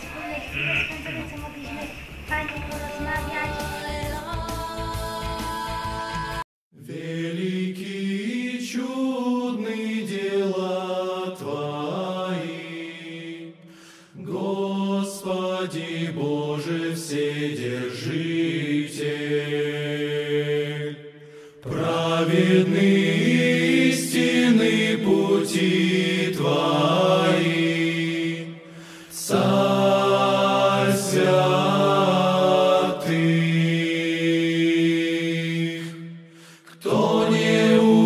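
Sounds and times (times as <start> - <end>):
choir singing slow chant: 2.3 - 38.0.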